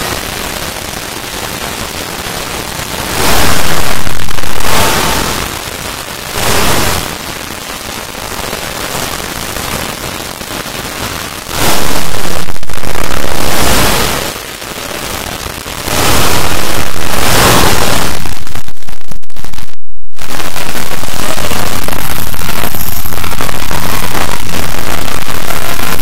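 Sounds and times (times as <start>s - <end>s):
distorted wall of overlapping soundtracks: 2.6s - 26.0s.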